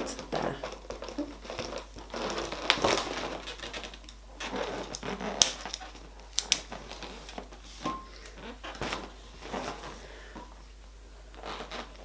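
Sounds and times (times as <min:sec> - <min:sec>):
balloons rubbing and squeaking: 0:00.0 - 0:10.5, 0:11.1 - 0:12.0.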